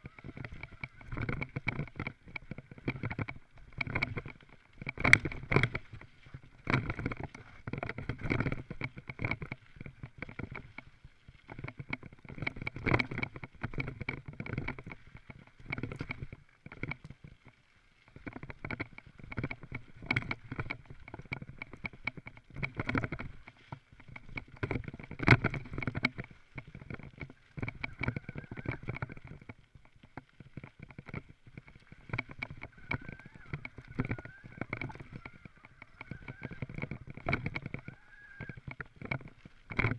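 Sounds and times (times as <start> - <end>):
mountain bike rattling: 0.0 - 39.9
tyres on dirt trail: 0.0 - 39.9.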